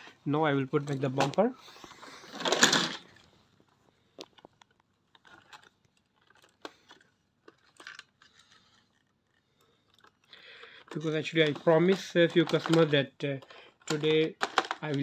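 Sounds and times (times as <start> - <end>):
plastic parts rustling scrape: 0.7 - 15.0.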